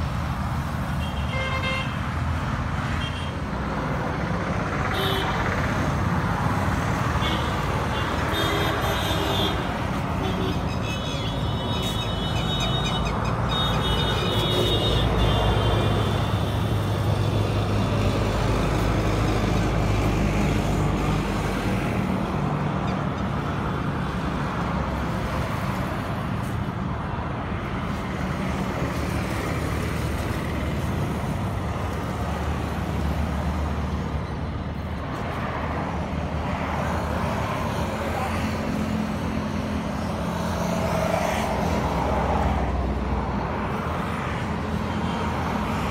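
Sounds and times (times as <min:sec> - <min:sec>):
road traffic rumble: 0:00.0 - 0:45.9.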